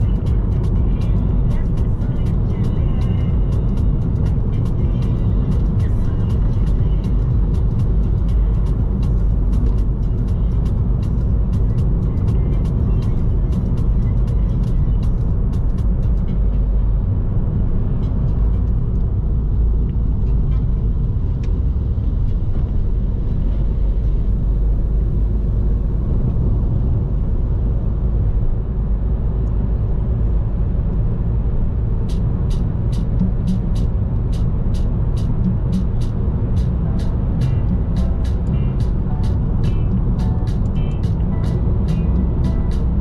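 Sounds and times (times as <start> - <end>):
vehicle driving on road: 0.0 - 43.0.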